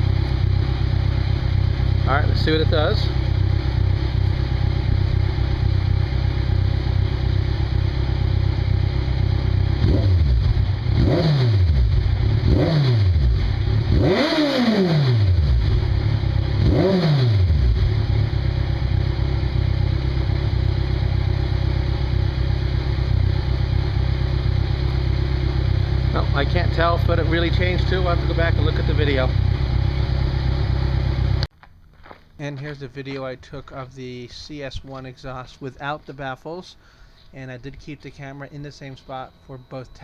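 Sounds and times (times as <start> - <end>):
motorcycle engine idling and revving: 0.0 - 32.2, 37.7 - 40.0.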